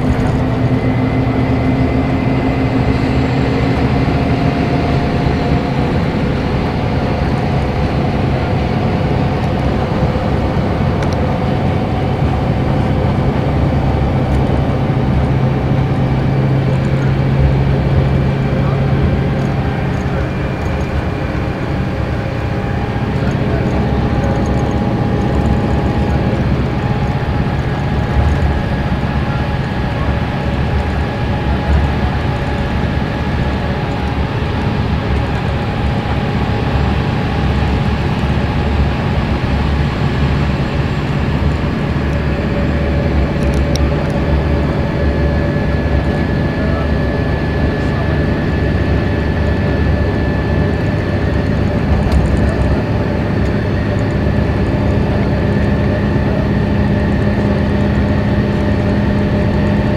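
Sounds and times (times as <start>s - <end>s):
diesel engine rumble: 0.0s - 59.9s
road and tyre noise: 0.0s - 59.9s.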